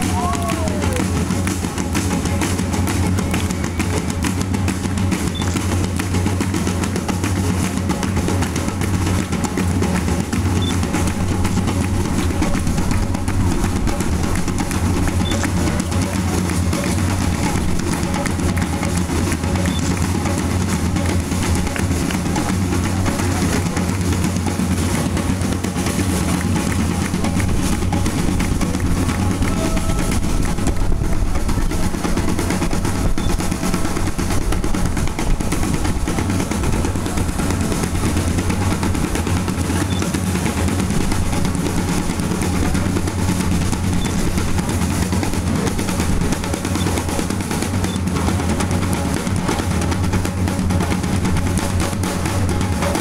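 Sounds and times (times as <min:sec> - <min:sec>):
drummers playing rhythm: 0:00.0 - 0:53.0.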